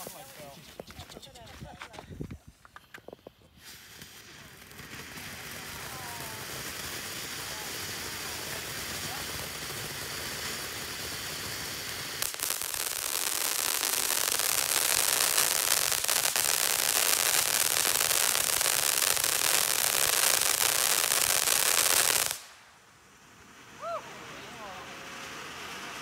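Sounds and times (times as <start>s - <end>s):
firework fountain hissing: 3.2s - 26.0s.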